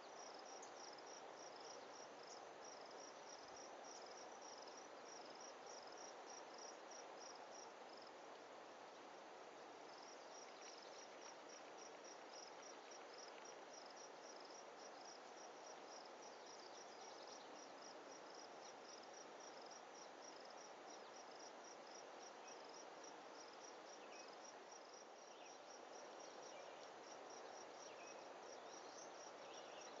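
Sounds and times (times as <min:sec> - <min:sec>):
faint insect chirping: 0:00.0 - 0:30.0
low even hiss: 0:00.0 - 0:30.0.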